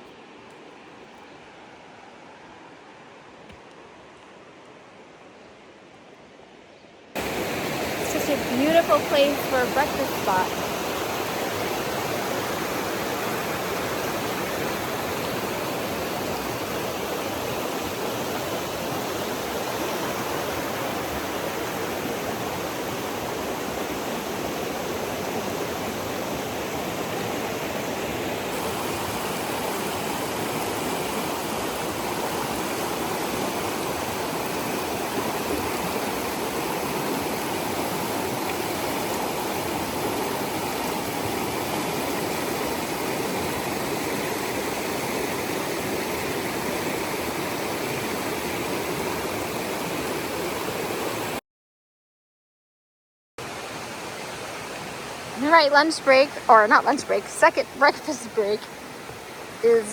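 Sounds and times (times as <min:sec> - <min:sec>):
stream water rushing: 0:00.0 - 0:51.4, 0:53.4 - 0:59.9.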